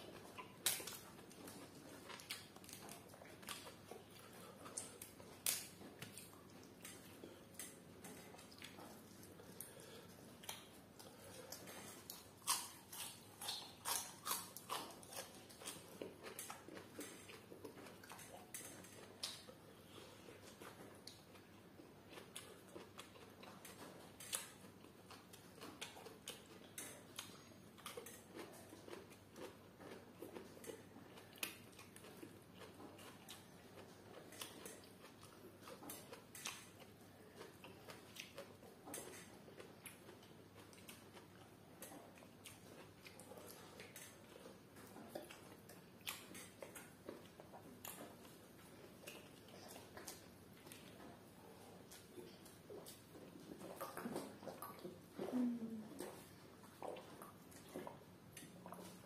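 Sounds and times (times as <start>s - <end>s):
people chewing and smacking: 0.0s - 59.0s.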